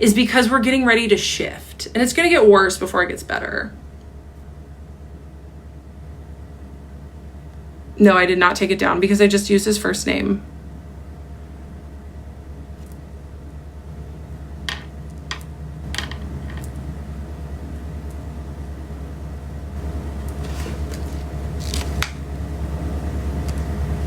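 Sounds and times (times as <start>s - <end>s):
low pulsing rumble: 0.0s - 20.3s.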